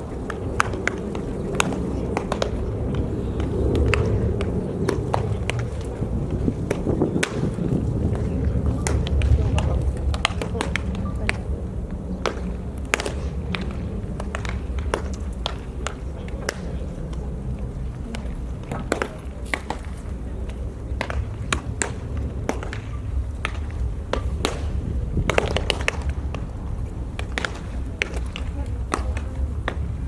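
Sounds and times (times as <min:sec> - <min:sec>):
baseballs smacking into gloves: 0:00.0 - 0:30.0
steady low rumble: 0:00.0 - 0:30.0.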